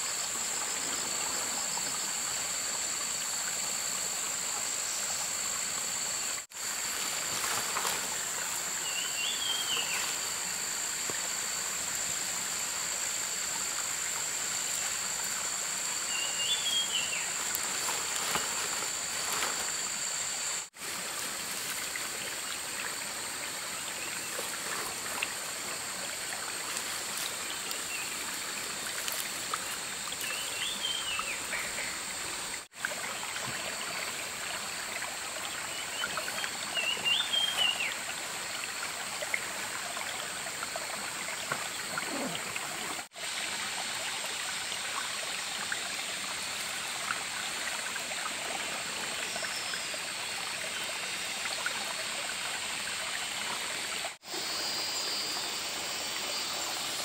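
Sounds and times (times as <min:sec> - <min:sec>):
hiss like running water: 0:00.0 - 0:57.0.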